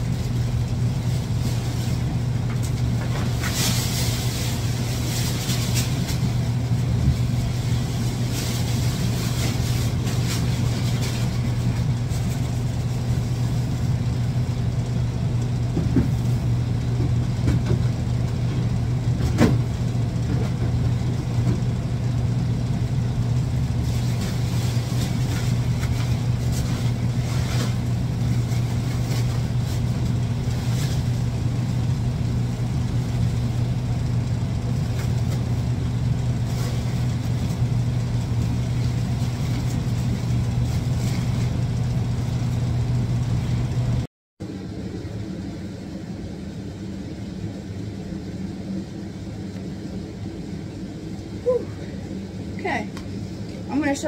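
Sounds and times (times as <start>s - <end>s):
exhaust fan humming: 0.0s - 54.0s.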